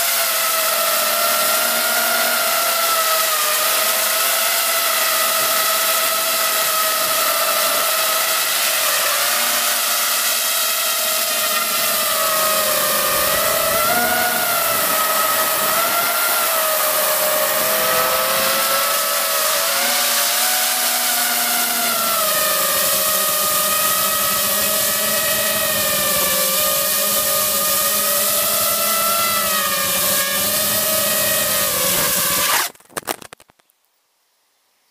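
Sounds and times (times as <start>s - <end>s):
drone motors and propellers whining: 0.0s - 32.7s.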